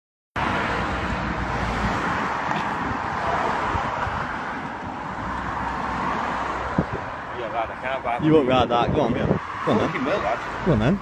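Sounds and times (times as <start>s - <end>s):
road traffic: 0.4s - 11.0s
wind buffeting microphone: 1.2s - 11.0s.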